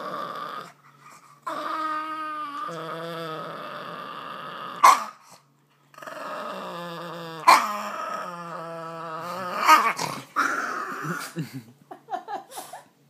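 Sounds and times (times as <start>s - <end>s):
dog growling: 0.0s - 11.4s.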